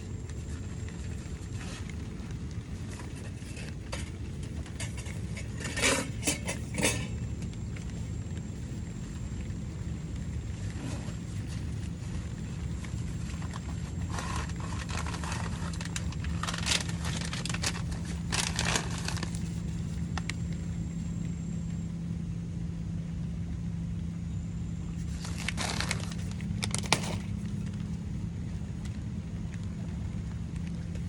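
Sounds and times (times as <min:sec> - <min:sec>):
rustling and crunching: 0:00.0 - 0:21.2, 0:24.9 - 0:31.0
low engine hum: 0:00.0 - 0:31.0.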